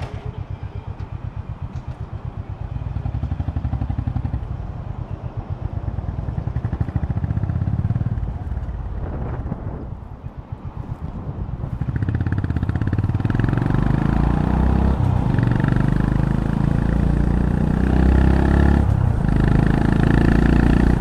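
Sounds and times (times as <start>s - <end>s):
motorcycle engine pulling away: 0.0s - 4.6s, 5.6s - 9.5s, 11.7s - 21.0s.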